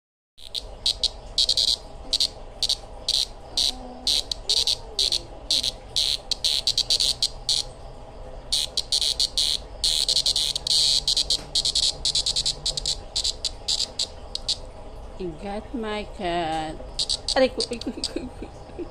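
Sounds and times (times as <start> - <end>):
cicada buzzing: 0.4 - 14.6, 16.7 - 18.9.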